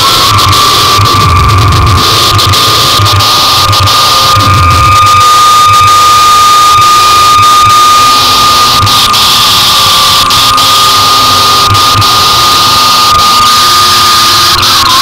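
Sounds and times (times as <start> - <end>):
electronic static hiss: 0.0 - 15.0
low pulses: 0.0 - 15.0
steady high tone: 0.0 - 15.0.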